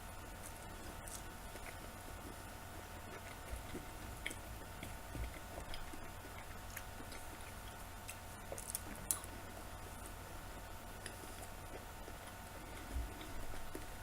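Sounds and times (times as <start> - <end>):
chewing mushrooms: 0.0 - 14.0
faint steady hum: 0.0 - 14.0.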